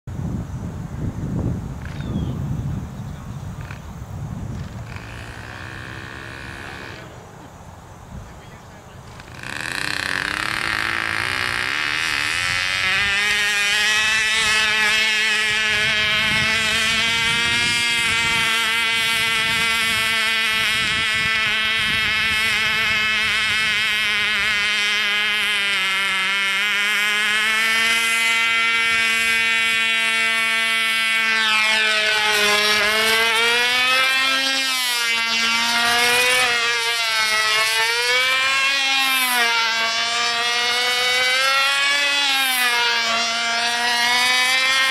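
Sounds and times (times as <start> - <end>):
model airplane engine whining: 0.3 - 44.9.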